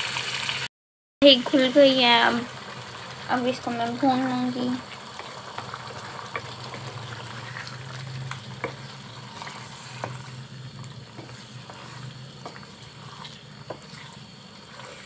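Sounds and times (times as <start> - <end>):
curry sizzling and bubbling: 0.0 - 15.0.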